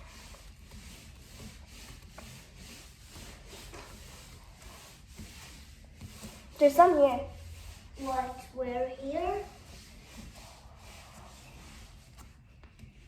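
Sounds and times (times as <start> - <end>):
surface being wiped: 0.0 - 13.0.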